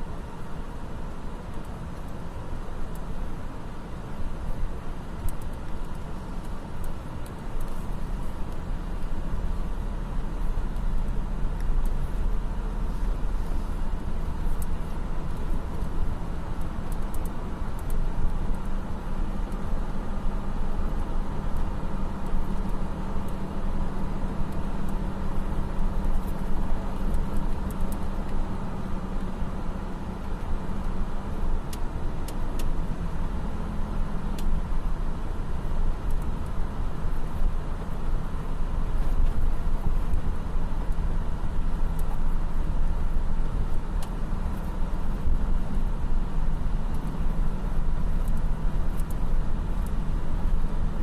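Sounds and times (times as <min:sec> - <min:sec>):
diesel engine drone: 0:00.0 - 0:51.0.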